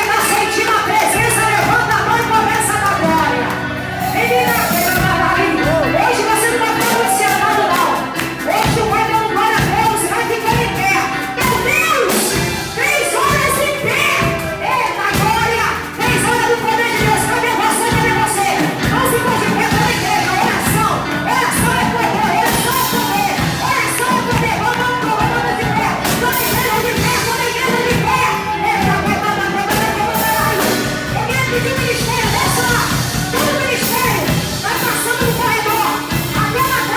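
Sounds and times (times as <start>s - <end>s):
band playing worship music: 0.0s - 36.9s
regular drum beat: 0.0s - 36.9s.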